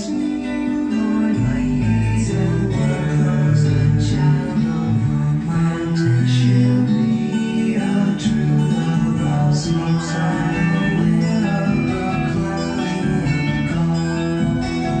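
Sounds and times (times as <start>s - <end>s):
guitar music with singing: 0.0s - 15.0s.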